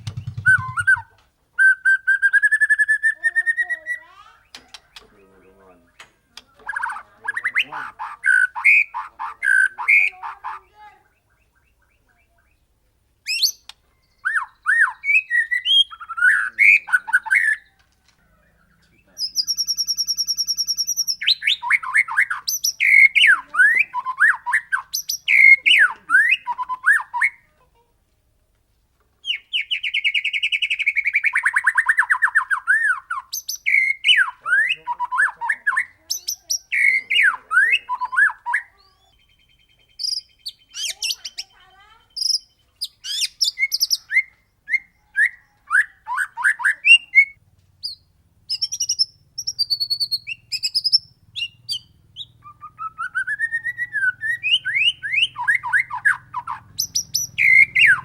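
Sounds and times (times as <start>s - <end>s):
bird singing whistled phrases: 0.0s - 5.2s, 5.8s - 10.2s, 13.3s - 17.8s, 19.0s - 27.4s, 29.2s - 58.0s.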